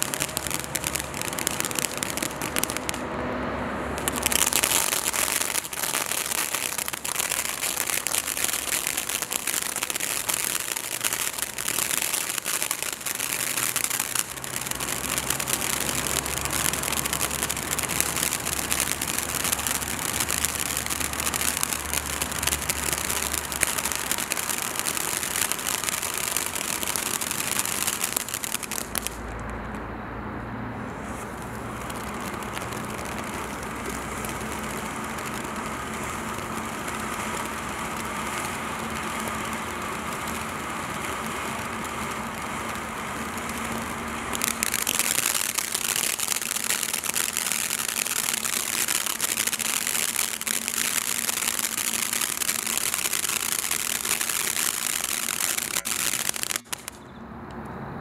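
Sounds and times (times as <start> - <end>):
dense crackling: 0.0 - 3.0, 3.9 - 29.9, 30.8 - 57.0
fountain firework hissing sparks: 0.0 - 3.0, 3.8 - 29.8, 30.7 - 57.0.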